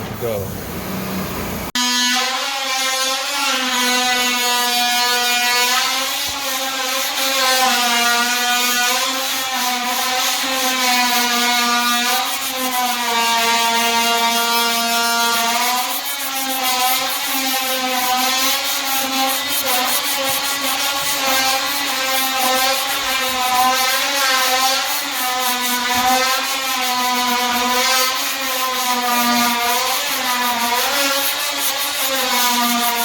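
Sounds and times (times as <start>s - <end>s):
rapid rasping scrape: 2.2s - 33.0s.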